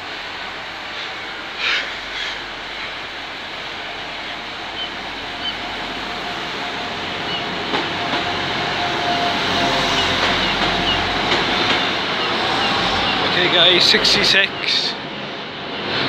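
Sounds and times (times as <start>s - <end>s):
steady whine: 0.0s - 15.6s
diesel train rumble: 0.0s - 16.0s.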